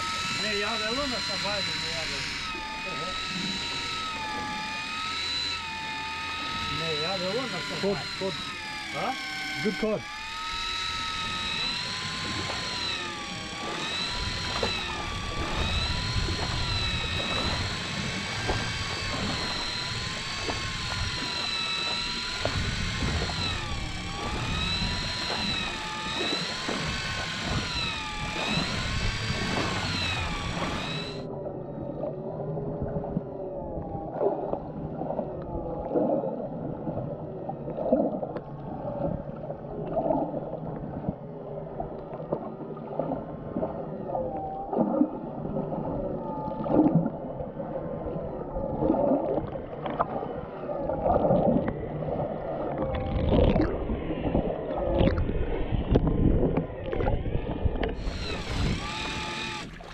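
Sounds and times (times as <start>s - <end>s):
fishing reel motor whining: 0.0s - 40.6s, 43.8s - 47.2s, 47.8s - 59.9s.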